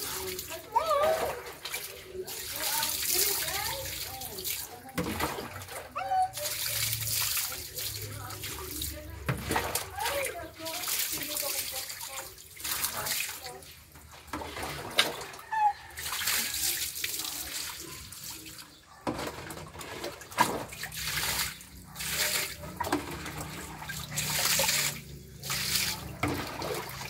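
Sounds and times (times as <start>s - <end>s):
water splashing through cage: 0.0s - 27.0s.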